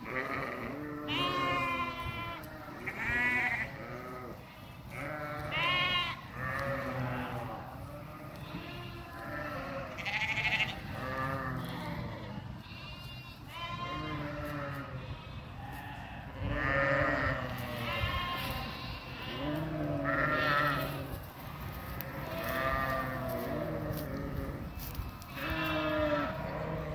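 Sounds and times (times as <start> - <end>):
sheep bleating: 0.0 - 21.2, 21.9 - 24.6, 25.3 - 26.9.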